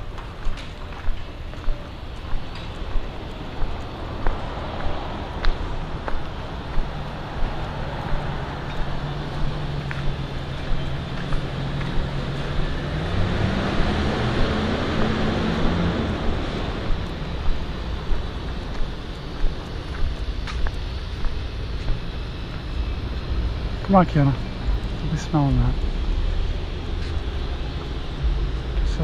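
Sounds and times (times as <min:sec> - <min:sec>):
footsteps on pavement: 0:00.0 - 0:29.0
vehicle engine passing: 0:01.6 - 0:29.0.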